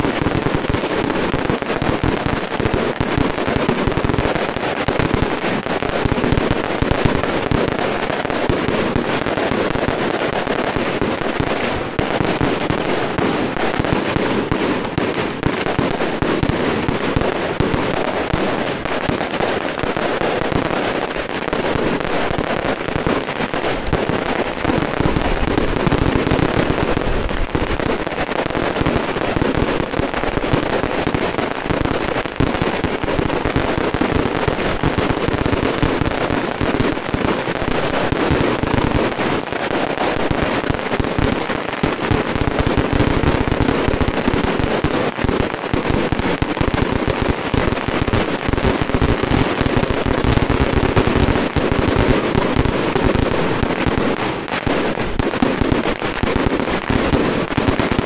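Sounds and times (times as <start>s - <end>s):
firecrackers and fireworks banging: 0.0s - 58.0s.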